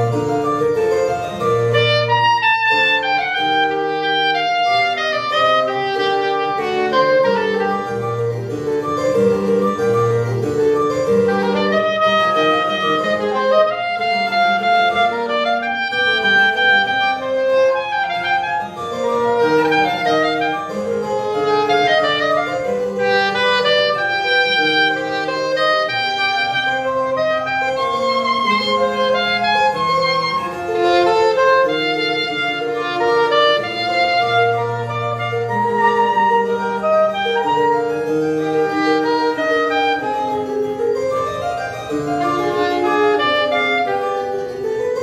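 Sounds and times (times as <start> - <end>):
soprano saxophone solo: 0.0 - 45.0.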